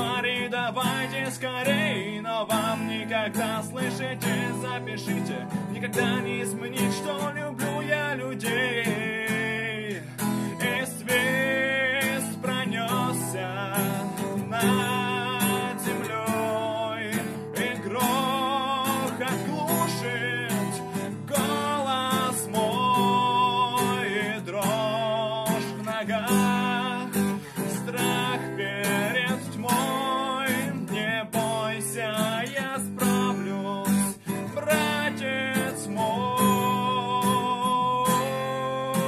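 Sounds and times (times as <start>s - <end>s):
man singing: 0.0s - 39.0s
strummed acoustic guitar: 0.0s - 39.0s.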